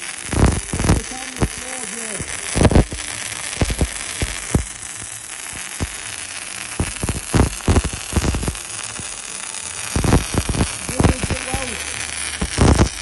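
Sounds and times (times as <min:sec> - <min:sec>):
spatter crackling pops: 0:00.0 - 0:13.0
welding arc frying hiss: 0:00.0 - 0:13.0.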